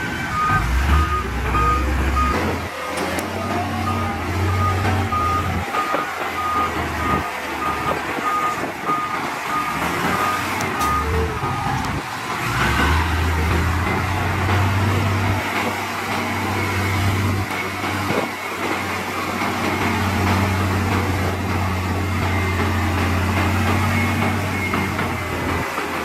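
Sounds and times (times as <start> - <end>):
diesel engine droning under load: 0.0 - 26.0.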